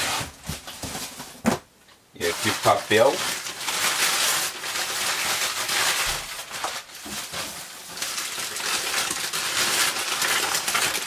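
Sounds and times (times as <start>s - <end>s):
packing paper rustling: 0.0s - 1.6s, 2.2s - 11.0s.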